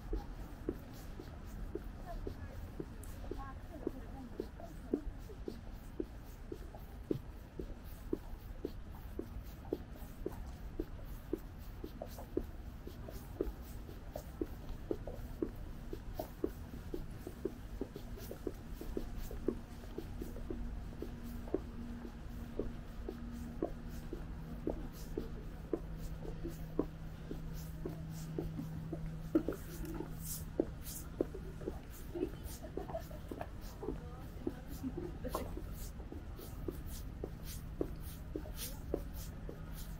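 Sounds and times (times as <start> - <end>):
faint steady hum: 0.0 - 39.9
footsteps on pavement: 0.0 - 39.9
low city rumble: 0.0 - 39.9.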